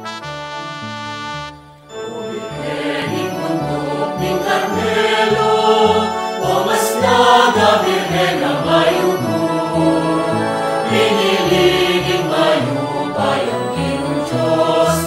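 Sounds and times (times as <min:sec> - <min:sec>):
hymn sung with instruments: 0:01.9 - 0:15.0.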